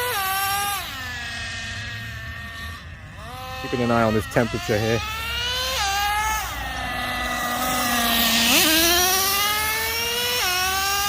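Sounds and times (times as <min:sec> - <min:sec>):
nitro engine revving: 0:00.0 - 0:11.0.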